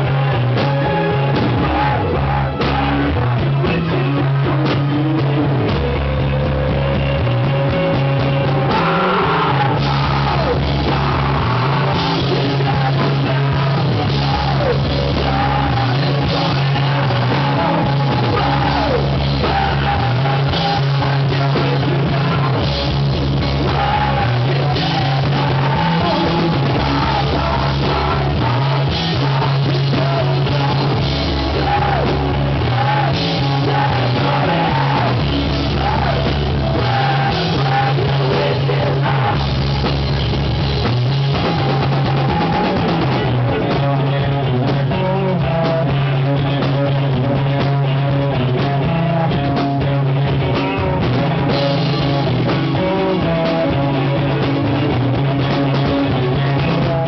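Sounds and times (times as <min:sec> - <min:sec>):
bass guitar: 0:00.0 - 0:57.0
drum kit: 0:00.0 - 0:57.0
electric guitars: 0:00.0 - 0:57.0
man singing: 0:00.0 - 0:57.0.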